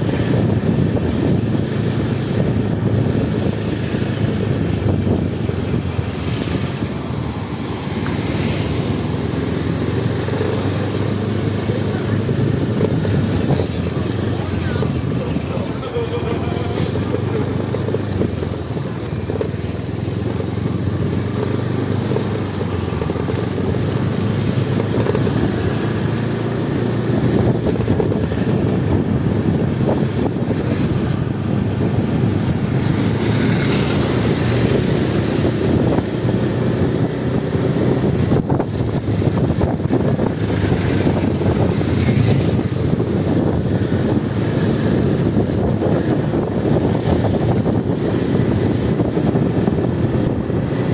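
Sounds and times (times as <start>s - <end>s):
scooter engine running: 0.0s - 50.9s
wind on microphone: 0.0s - 50.9s.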